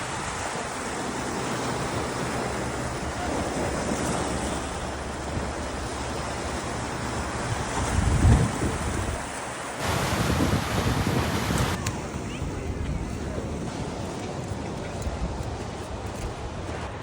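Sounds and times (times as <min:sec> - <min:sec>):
ocean surf washing on beach: 0:00.0 - 0:17.0
wind rumbling on microphone: 0:00.0 - 0:17.0.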